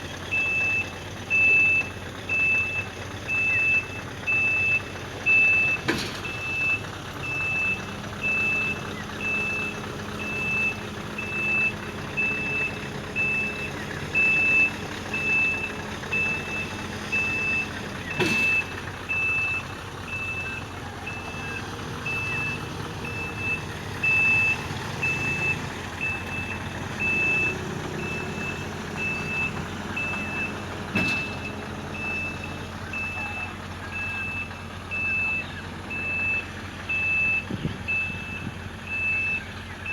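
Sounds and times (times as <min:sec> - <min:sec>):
heavy diesel engine running: 0:00.0 - 0:39.9
reversing alarm beeping: 0:00.2 - 0:39.9.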